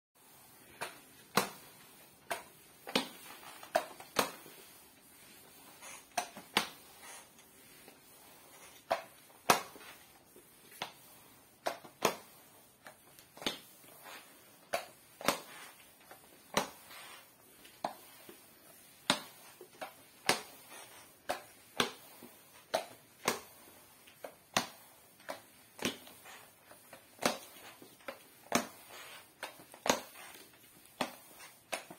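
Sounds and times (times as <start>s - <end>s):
mop pad swishing on floor: 0.2s - 31.9s.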